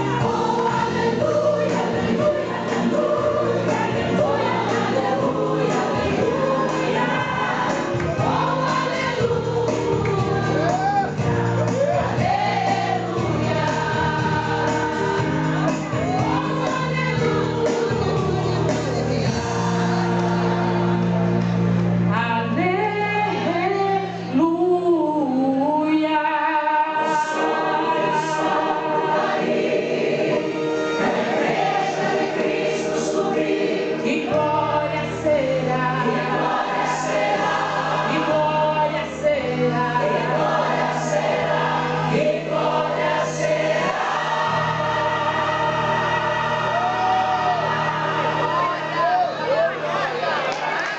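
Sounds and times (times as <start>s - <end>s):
instrumental backing with bass: 0.0s - 50.5s
gospel singing with choir: 0.0s - 50.9s.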